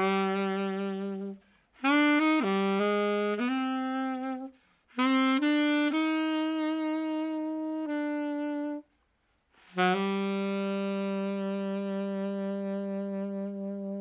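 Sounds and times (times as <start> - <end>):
solo saxophone melody: 0.0 - 14.0.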